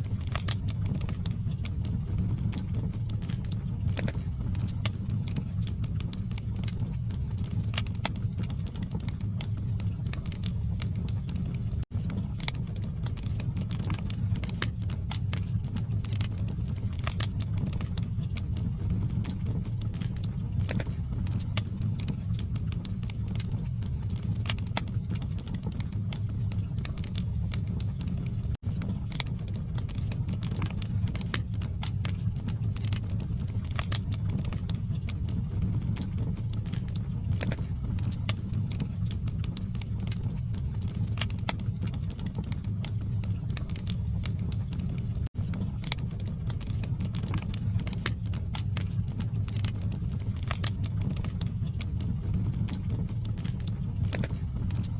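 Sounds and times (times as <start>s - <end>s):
log fire rumbling: 0.0s - 54.9s
wood crackling and popping: 0.0s - 54.9s.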